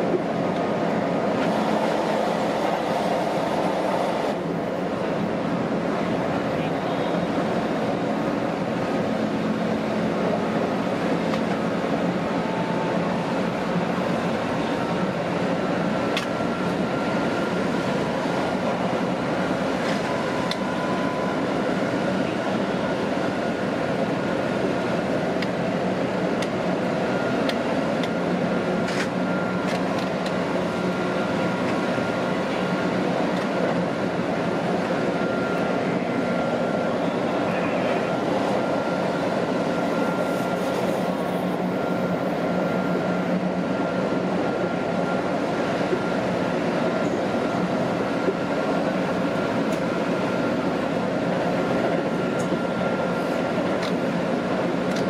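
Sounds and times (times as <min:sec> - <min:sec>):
thin steady whine: 0:00.0 - 0:55.0
train wheels rumbling on rail: 0:00.0 - 0:55.0.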